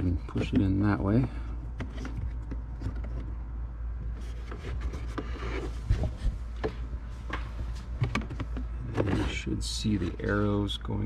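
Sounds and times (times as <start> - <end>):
filter frame scraping plastic: 0.2 - 6.8, 7.7 - 10.5.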